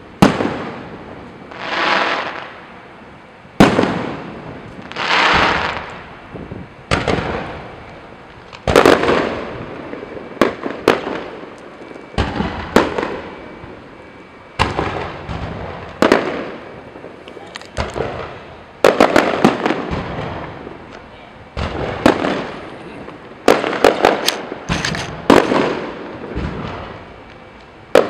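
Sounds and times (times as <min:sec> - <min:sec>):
fireworks bursting with echo: 0:00.0 - 0:28.0.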